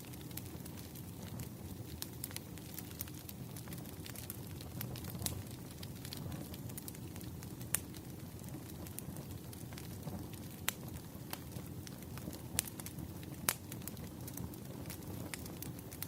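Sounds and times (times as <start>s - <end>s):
fire crackling pops: 0.0s - 16.0s
low rumble of flames: 0.0s - 16.0s.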